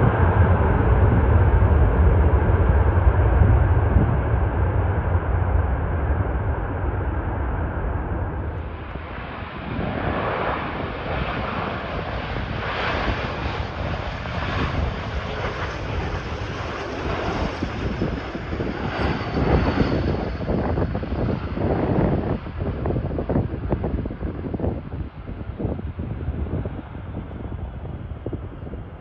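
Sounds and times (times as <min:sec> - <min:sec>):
high engine whine: 0:00.0 - 0:29.0
jet engine roar: 0:00.0 - 0:29.0
wind buffeting microphone: 0:00.0 - 0:29.0.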